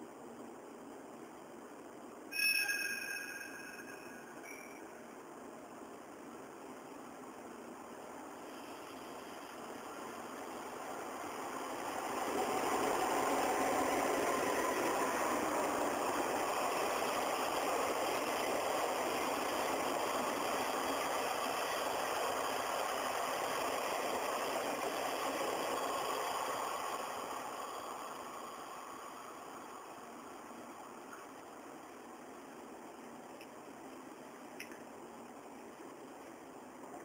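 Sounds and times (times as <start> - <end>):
train passing rumble: 0.0 - 37.0.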